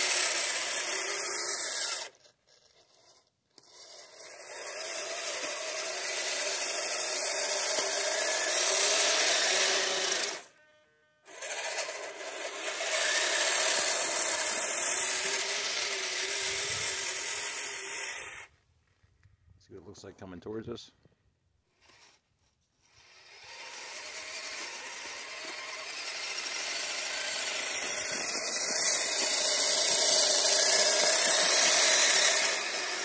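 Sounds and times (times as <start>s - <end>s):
toy electric motors whirring: 0.0s - 18.5s, 21.7s - 33.0s.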